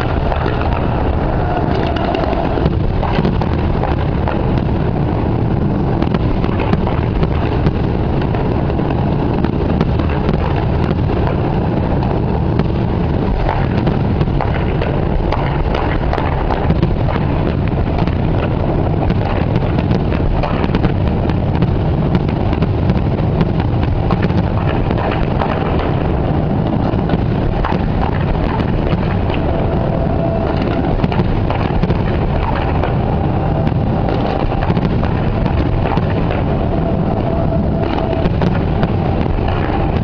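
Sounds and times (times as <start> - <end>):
fireworks barrage rumble: 0.0 - 40.0
fireworks cracks and pops: 0.0 - 40.0
wind buffeting microphone: 0.0 - 40.0.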